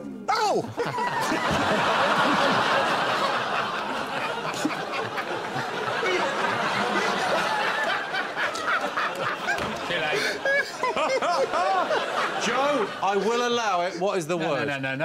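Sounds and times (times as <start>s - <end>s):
studio audience laughing: 0.7s - 15.0s.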